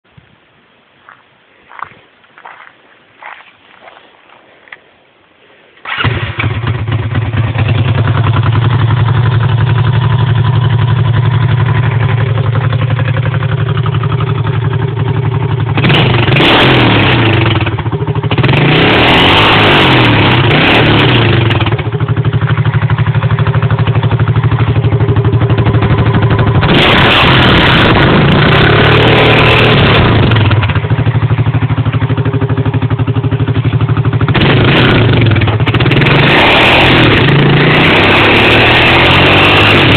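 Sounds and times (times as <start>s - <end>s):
atv engine idling and revving: 5.9s - 39.9s.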